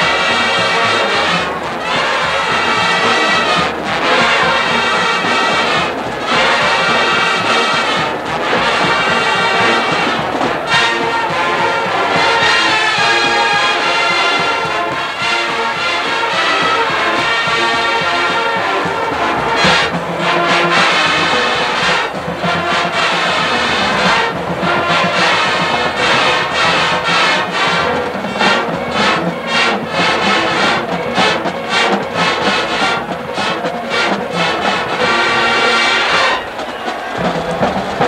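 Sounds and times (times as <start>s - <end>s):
brass section playing swing: 0.0s - 38.0s.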